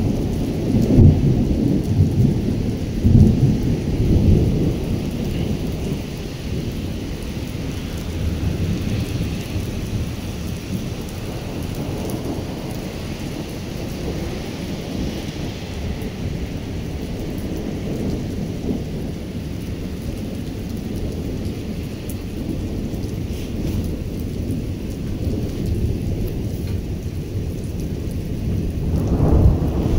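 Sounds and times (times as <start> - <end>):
heavy rain on pavement: 0.0 - 29.9.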